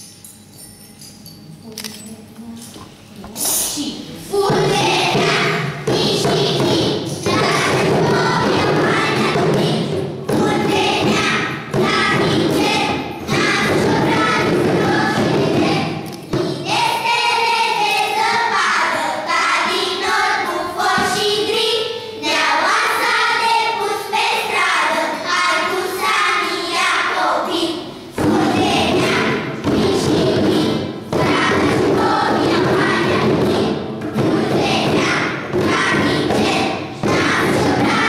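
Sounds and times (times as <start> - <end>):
children's choir singing: 4.2 - 38.0.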